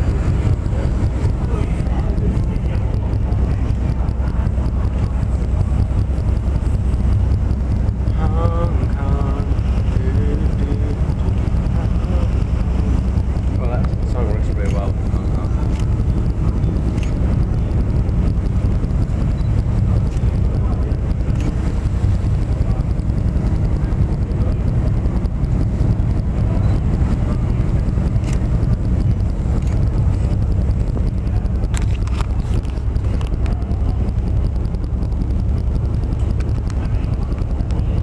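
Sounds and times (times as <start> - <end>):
ferry engine drone: 0.0 - 38.0
water noise: 0.0 - 38.0
wind buffeting microphone: 0.0 - 38.0.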